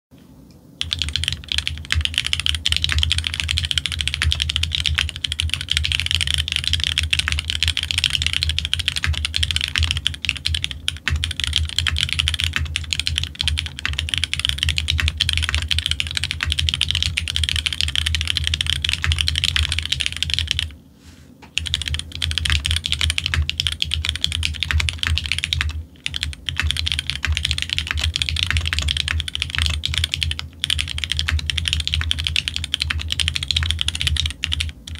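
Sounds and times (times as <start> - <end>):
fast mechanical keyboard typing: 0.8 - 20.8, 21.5 - 34.9.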